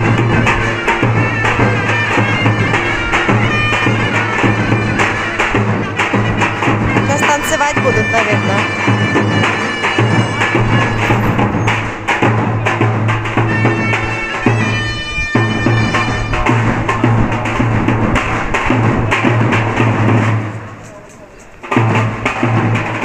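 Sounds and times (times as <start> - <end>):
large bass drum beats: 0.0 - 23.0
reedy shawm melody: 0.0 - 23.0.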